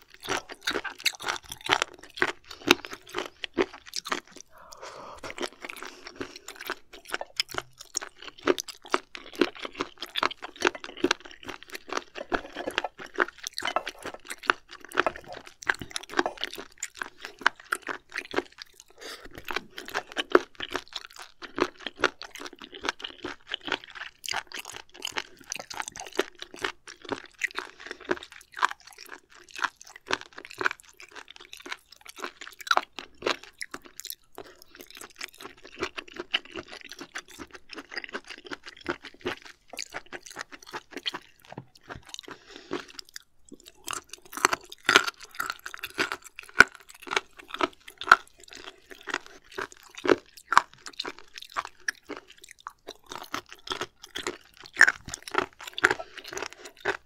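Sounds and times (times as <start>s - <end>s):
wet crunchy chewing: 0.0s - 57.0s.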